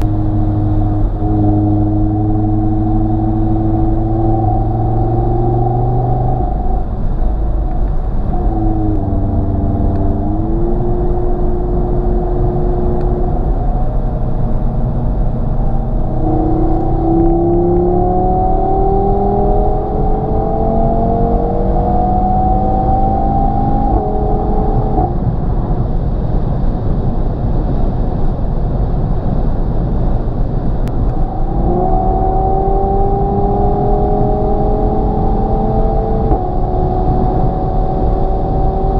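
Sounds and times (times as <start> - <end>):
car engine accelerating: 0.0 - 26.1, 30.7 - 38.9
road rumble: 0.0 - 38.9.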